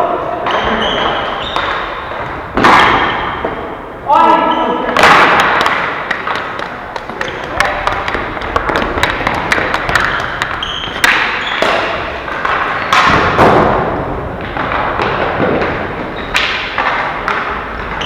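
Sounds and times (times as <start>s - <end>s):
hockey stick clacks: 0.4s - 3.6s, 4.9s - 18.0s.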